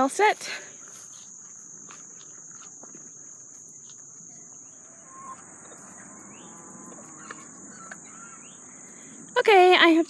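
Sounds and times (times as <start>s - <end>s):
footsteps through grass: 0.0s - 8.8s
insects chorus: 0.0s - 10.0s.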